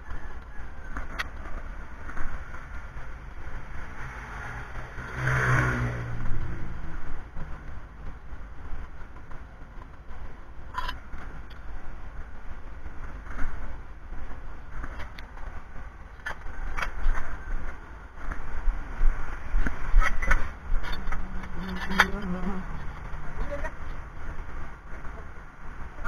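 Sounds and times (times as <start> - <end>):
low rumble: 0.0 - 26.0
vehicle engine: 0.0 - 26.0.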